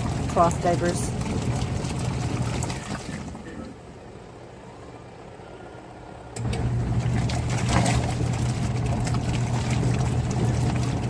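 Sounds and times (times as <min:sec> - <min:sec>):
washing machine motor humming: 0:00.0 - 0:11.0.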